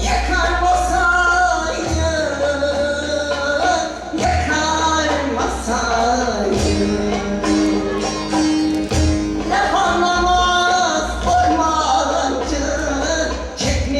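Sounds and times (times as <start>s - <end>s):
instrumental accompaniment: 0.0s - 13.9s
person singing folk song: 0.0s - 13.9s.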